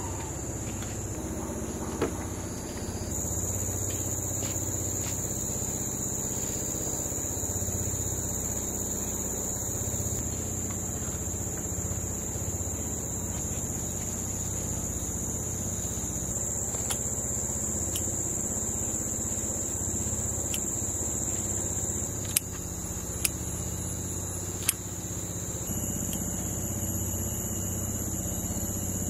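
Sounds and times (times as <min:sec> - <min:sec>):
insects trilling: 0:00.0 - 0:29.0
low hum: 0:00.0 - 0:29.0.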